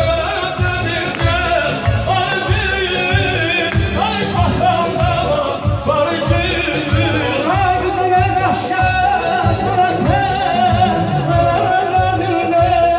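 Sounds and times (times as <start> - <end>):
amplified dance music: 0.0 - 12.9.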